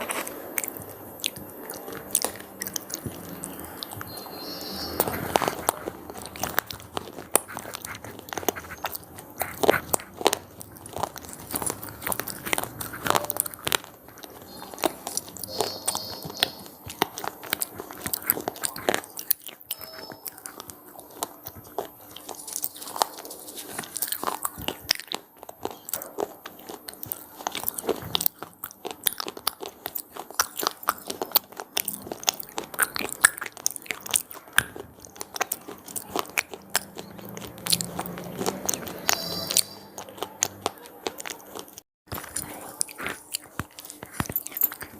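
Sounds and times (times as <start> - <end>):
chewing crunchy snacks: 0.0 - 44.9.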